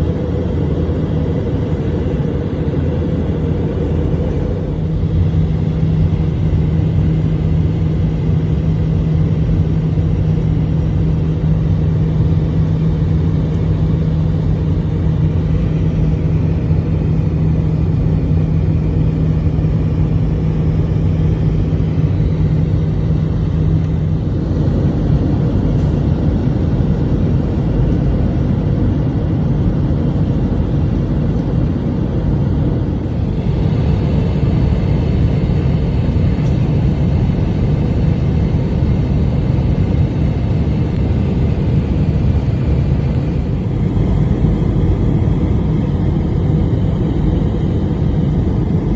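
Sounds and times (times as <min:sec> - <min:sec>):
airliner engine rumble: 0:00.0 - 0:48.9
steady cabin hum: 0:00.0 - 0:48.9.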